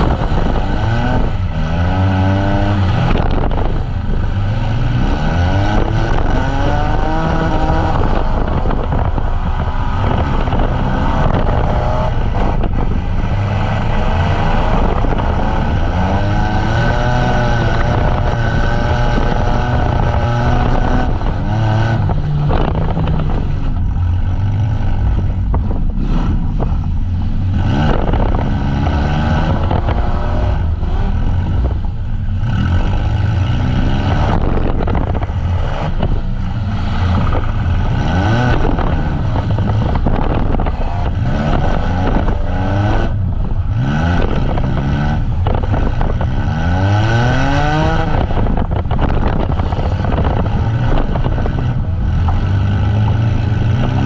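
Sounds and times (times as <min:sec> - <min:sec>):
steady low rumble: 0:00.0 - 0:54.0
van engines revving hard: 0:00.0 - 0:54.0.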